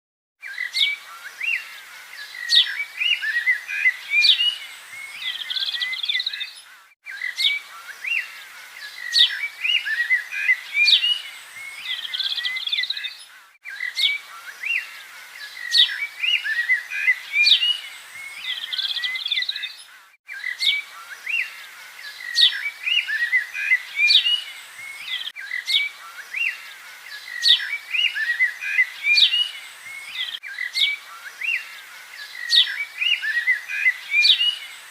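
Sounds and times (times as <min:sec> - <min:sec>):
birds chirping: 0:00.4 - 0:34.9.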